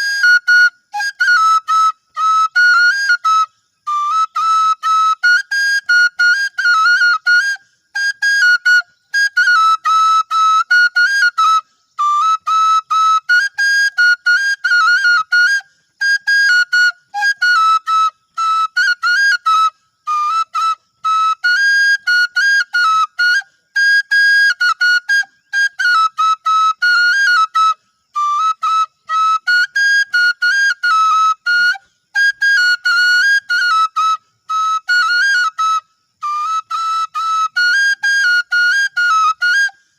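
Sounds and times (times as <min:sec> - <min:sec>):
bamboo flute melody: 0:00.0 - 0:39.9.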